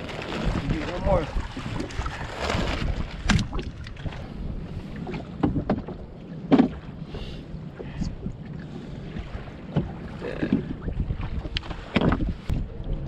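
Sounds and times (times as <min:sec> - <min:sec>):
water lapping against hull: 0:00.0 - 0:13.0
wind buffeting microphone: 0:00.0 - 0:13.0.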